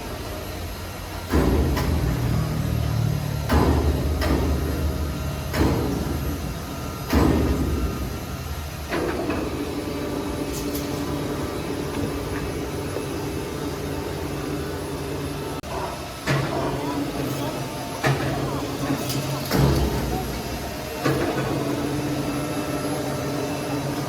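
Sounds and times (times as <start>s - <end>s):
loud machine clunks: 1.2s - 14.9s, 15.6s - 24.0s.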